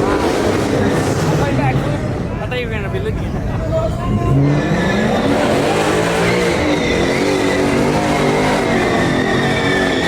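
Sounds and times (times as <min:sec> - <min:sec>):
car engine revving: 0:00.0 - 0:02.3, 0:04.2 - 0:10.0
tires squealing: 0:00.0 - 0:02.4, 0:03.9 - 0:10.0.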